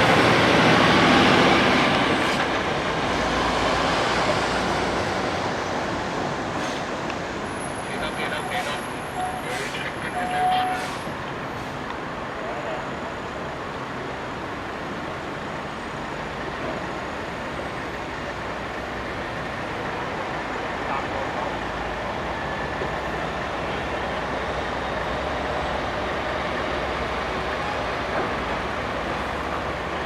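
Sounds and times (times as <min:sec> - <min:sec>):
road traffic: 0:00.0 - 0:30.0
vehicle engines running: 0:00.0 - 0:30.0.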